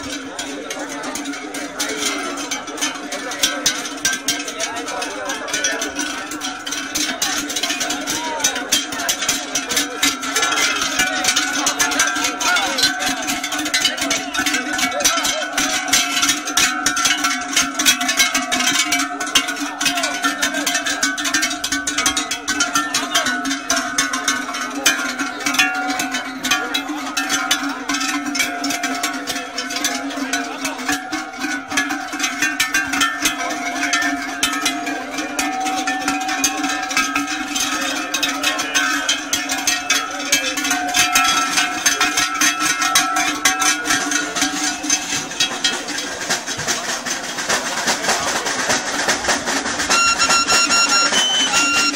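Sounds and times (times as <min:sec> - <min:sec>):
cowbells clanking: 0:00.0 - 0:51.9.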